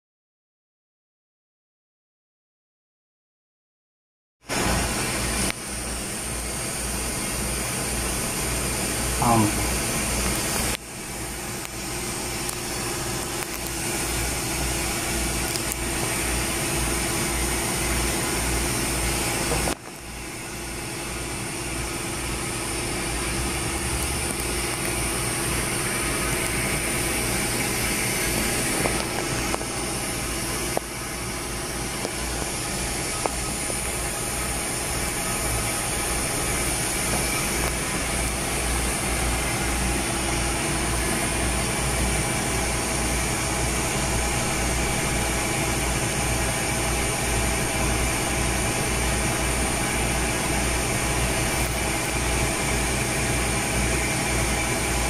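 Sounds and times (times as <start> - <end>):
machine drone with pulsing hum: 4.5 - 55.0.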